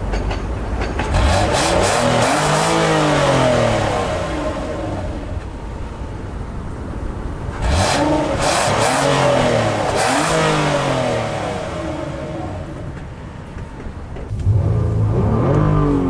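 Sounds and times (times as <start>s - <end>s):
car engine revving: 1.0s - 16.0s.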